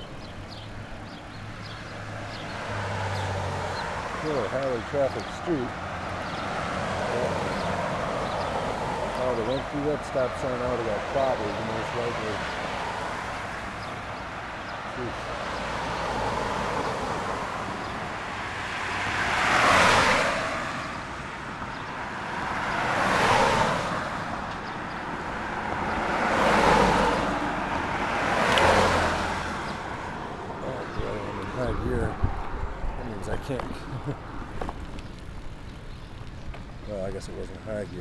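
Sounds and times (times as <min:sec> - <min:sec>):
cars passing by: 0:00.0 - 0:38.0
traffic noise: 0:00.0 - 0:38.0.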